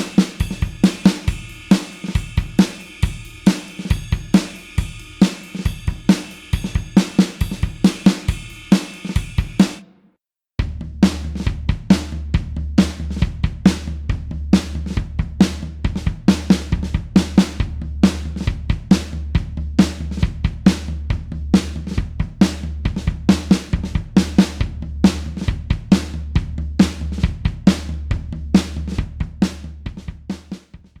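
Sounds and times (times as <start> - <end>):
rock drum kit beat: 0.0 - 9.9, 10.6 - 30.8.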